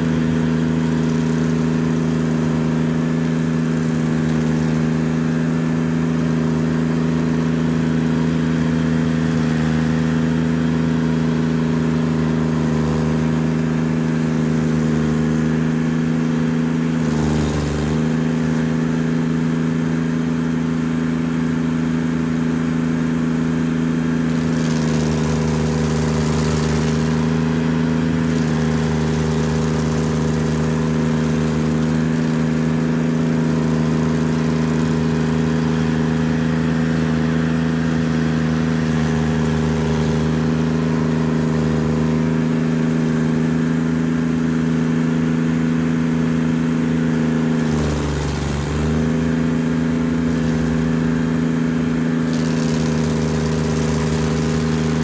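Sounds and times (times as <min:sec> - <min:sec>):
engine drone: 0:00.0 - 0:55.0
stump grinder cutting stump: 0:00.0 - 0:55.0.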